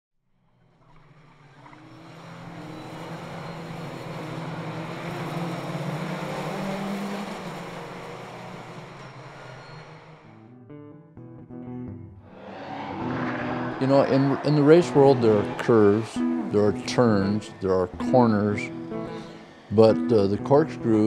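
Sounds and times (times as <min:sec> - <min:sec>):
distant race car engines: 0:00.4 - 0:10.5, 0:12.2 - 0:21.0.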